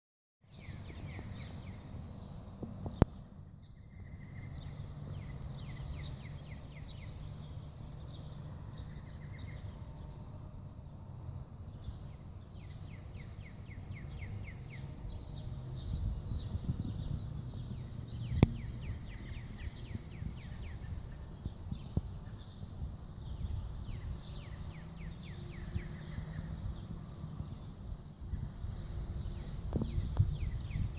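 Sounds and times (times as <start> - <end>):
birds chirping: 0.5 - 10.6, 11.5 - 30.9
low steady rumble: 0.5 - 30.9.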